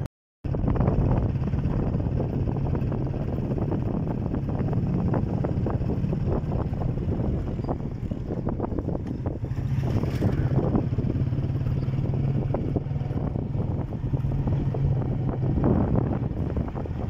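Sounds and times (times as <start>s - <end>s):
motorcycle engine running: 0.5s - 17.0s.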